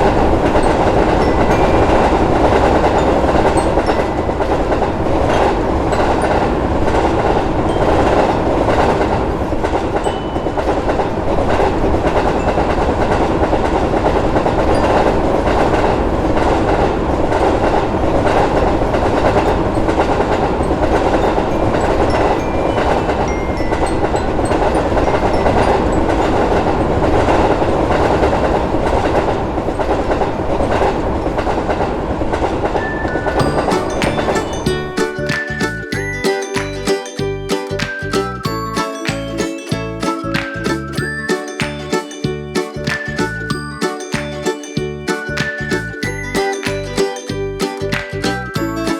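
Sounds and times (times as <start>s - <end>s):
train wheels clacking on rails: 0.0s - 48.9s.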